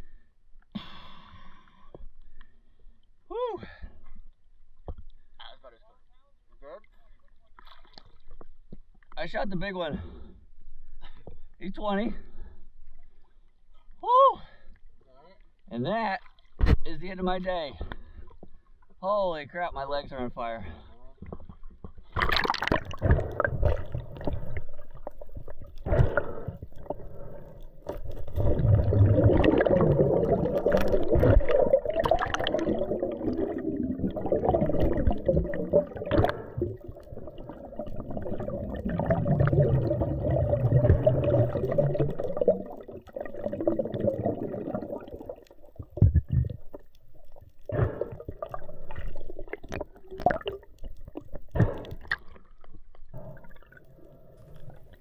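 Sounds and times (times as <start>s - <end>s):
muffled underwater water noise: 0.0s - 55.0s.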